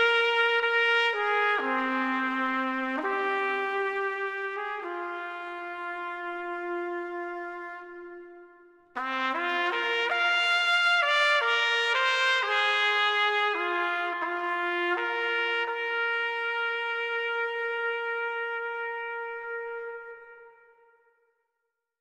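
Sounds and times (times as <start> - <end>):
slow solo brass melody: 0.0 - 21.2.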